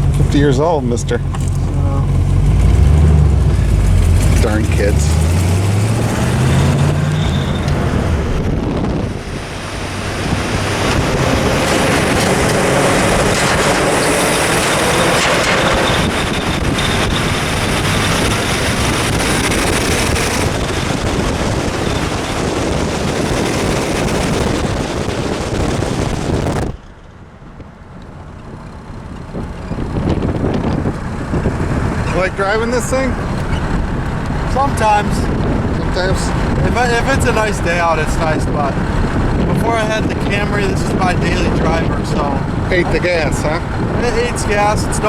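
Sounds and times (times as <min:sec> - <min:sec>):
car engine under load: 0:00.0 - 0:45.0
road noise: 0:00.0 - 0:45.0
wind noise: 0:00.0 - 0:45.0.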